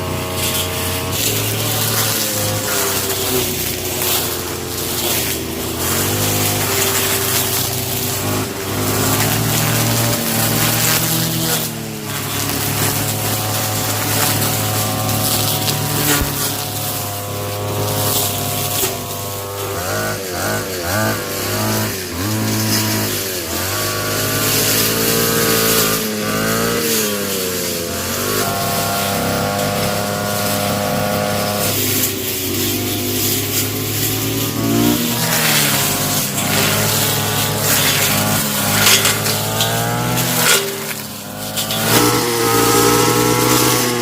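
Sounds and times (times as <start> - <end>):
small petrol engine running: 0.0 - 44.0.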